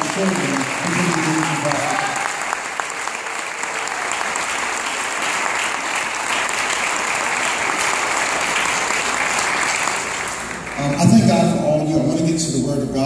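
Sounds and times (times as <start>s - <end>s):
congregation applauding: 0.0s - 11.7s.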